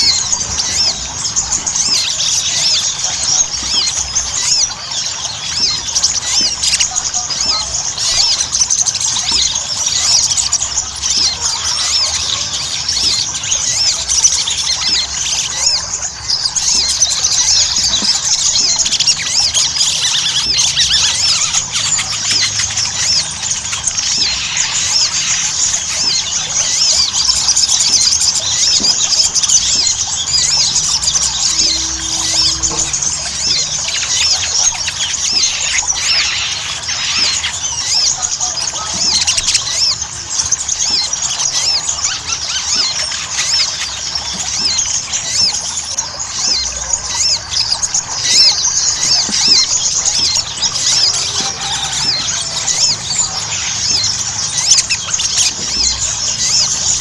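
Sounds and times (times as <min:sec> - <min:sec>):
bird rapid high-pitched chattering: 0:00.0 - 0:57.0.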